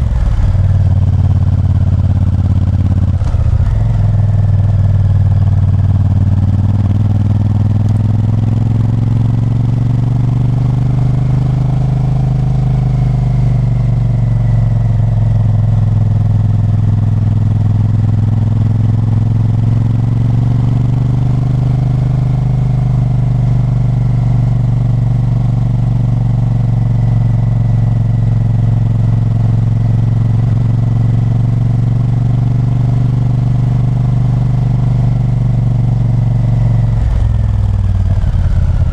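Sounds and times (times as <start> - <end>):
motorcycle engine revving: 0.0 - 22.4, 30.2 - 38.9.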